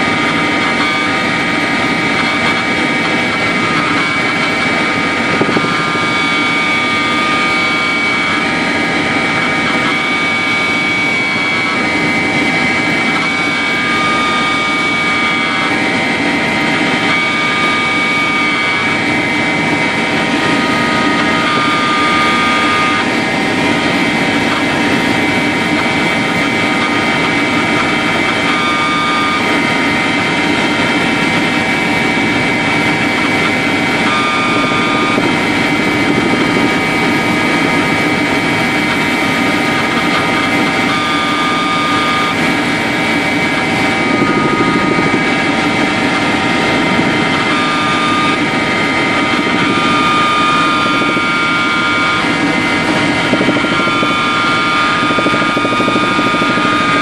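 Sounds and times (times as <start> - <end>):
helicopter engine and rotor drone: 0.0 - 57.0
high whine: 0.0 - 57.0.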